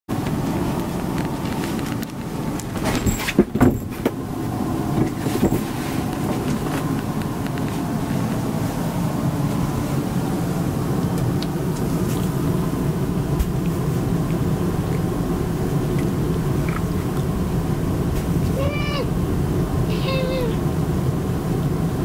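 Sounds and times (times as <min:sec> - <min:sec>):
low rumbling background noise: 0:00.1 - 0:22.0.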